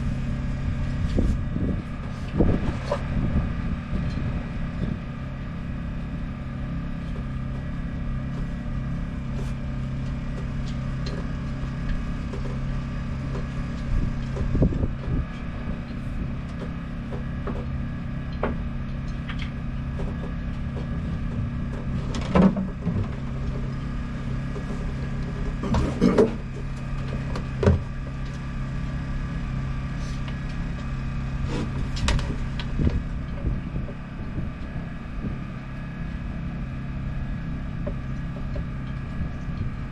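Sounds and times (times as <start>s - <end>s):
motor humming: 0.0s - 39.9s.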